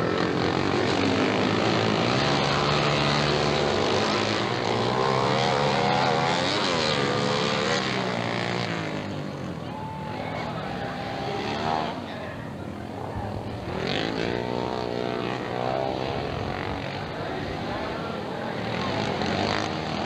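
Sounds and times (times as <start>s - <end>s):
motorcycle engines running hard: 0.0s - 20.0s.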